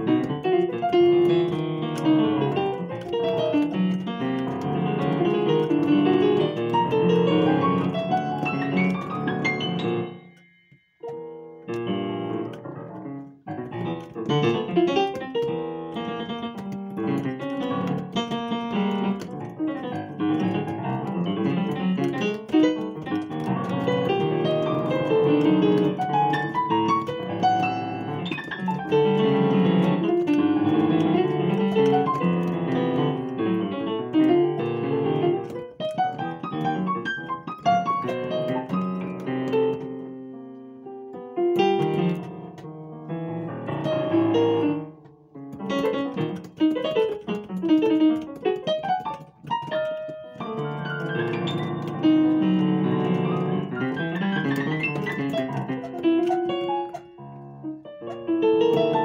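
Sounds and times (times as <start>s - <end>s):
digital piano playing: 0.0s - 59.0s.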